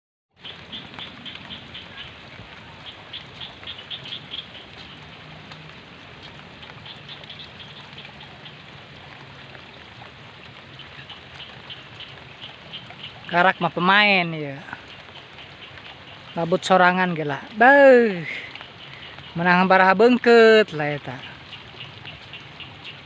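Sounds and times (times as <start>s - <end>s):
steady rain falling: 0.4s - 23.0s.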